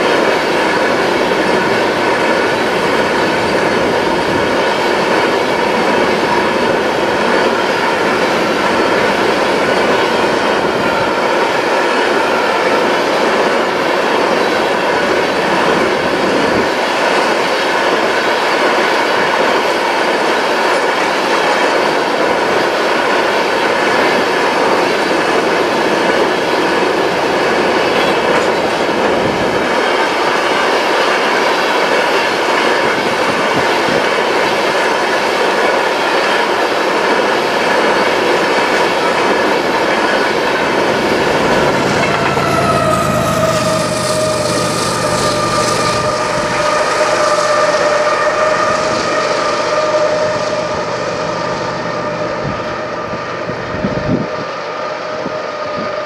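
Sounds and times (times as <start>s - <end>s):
steel wheels rolling on rail: 0.0s - 56.0s.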